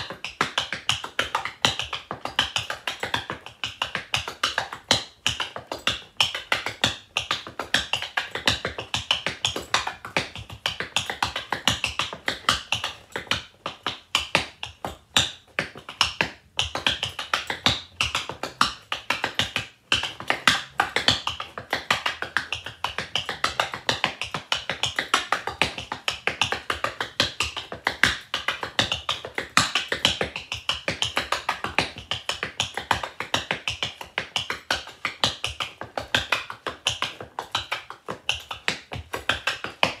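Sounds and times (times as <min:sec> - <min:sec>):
tap shoes on wooden board: 0:00.0 - 0:40.0.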